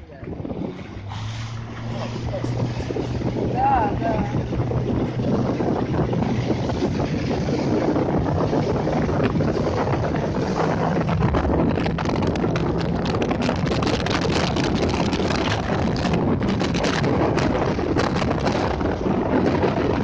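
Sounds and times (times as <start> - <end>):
motorboat engine droning: 0.0 - 20.0
wind buffeting microphone: 0.0 - 20.0.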